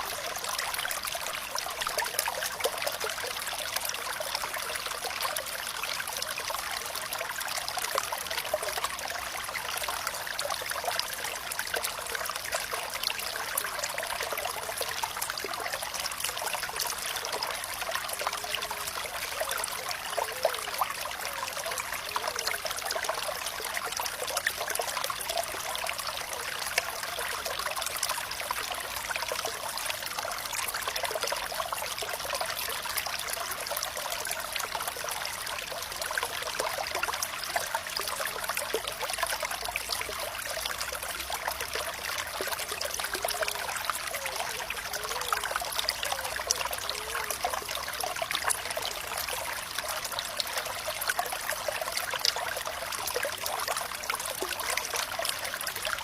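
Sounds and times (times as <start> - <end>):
water bubbling gurgles: 0.0 - 56.0
water trickling over shallow bed: 0.0 - 56.0.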